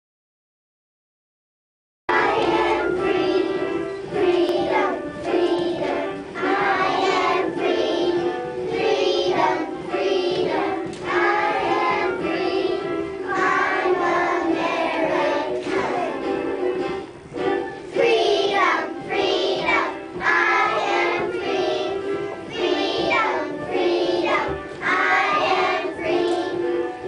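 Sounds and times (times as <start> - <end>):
children singing together: 2.1 - 27.0.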